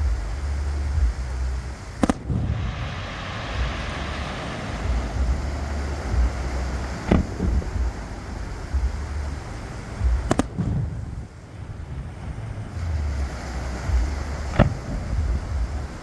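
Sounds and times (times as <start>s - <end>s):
fireworks bangs: 0.0s - 16.0s
fireworks crackling: 0.0s - 16.0s
wind rumble on microphone: 0.0s - 16.0s.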